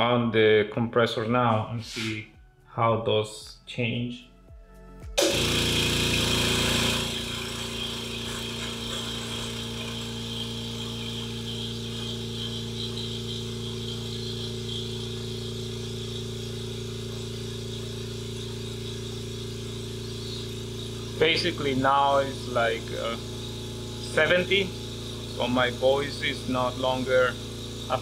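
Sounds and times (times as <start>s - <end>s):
air compressor humming: 5.2s - 28.0s.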